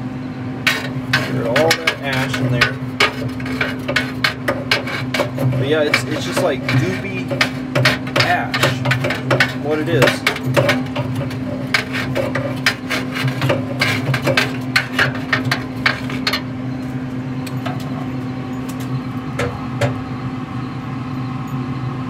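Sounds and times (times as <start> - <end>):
grill humming: 0.0 - 22.0
metal tool scraping fire pot: 0.6 - 20.0.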